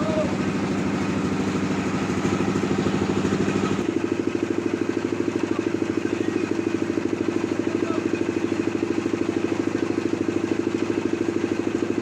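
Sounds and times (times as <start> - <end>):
sawmill engine pulsing: 0.0 - 12.0.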